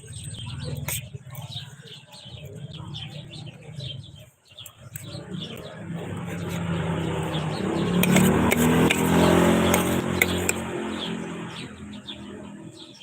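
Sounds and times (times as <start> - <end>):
small birds chirping: 0.0 - 13.0
vehicle engine approaching: 2.4 - 13.0.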